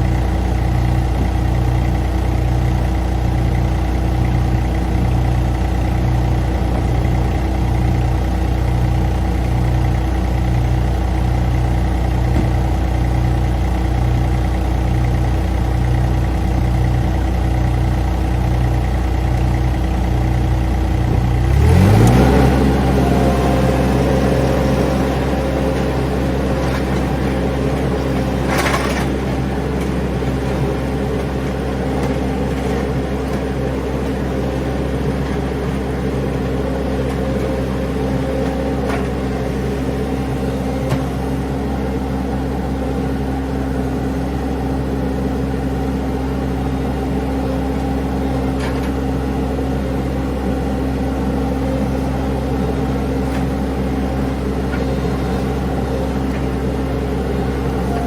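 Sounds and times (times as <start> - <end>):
small engine idling and revving: 0.0 - 58.0.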